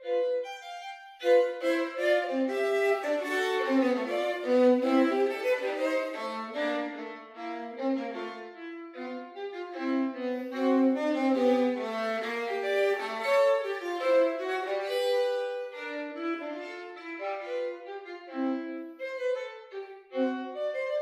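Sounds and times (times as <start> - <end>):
solo violin playing: 0.0 - 21.0.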